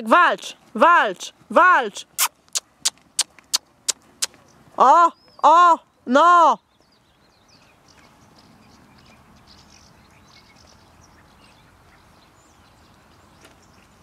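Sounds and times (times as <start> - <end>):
small birds chirping: 2.1 - 14.0.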